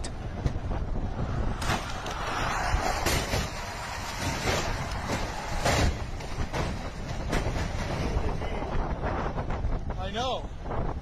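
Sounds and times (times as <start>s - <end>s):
traffic rushing on a road: 0.0s - 11.0s.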